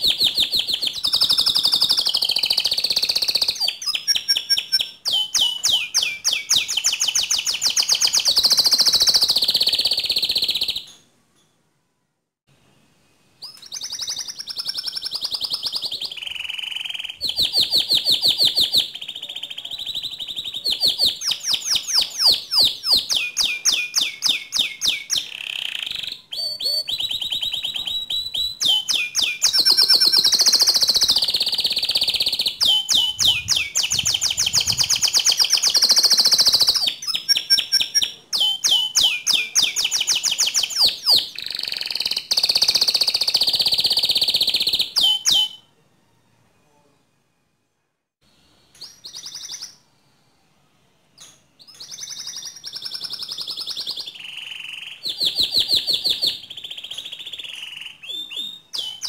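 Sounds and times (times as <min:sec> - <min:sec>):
canary singing trills: 0:00.0 - 0:11.1, 0:13.4 - 0:45.7, 0:48.6 - 0:49.9, 0:51.2 - 0:59.0.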